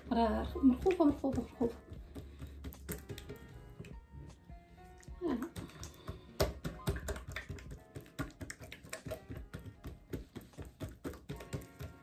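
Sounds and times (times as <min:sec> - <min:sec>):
hands slapping dough: 0:00.0 - 0:12.0.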